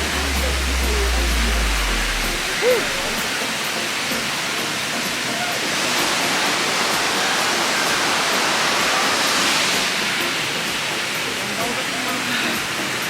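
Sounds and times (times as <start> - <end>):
waterfall and creek rushing: 0.0 - 13.0.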